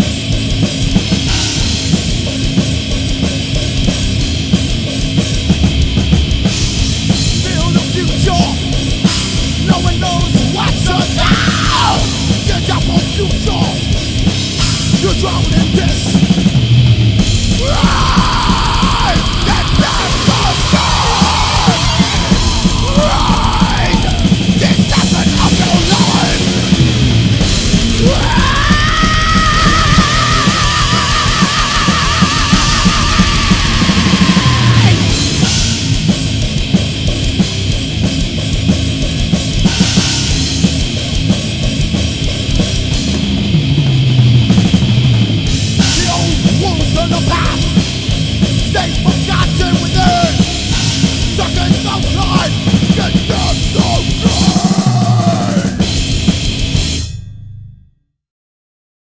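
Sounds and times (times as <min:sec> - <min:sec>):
hard rock music: 0:00.0 - 0:57.8.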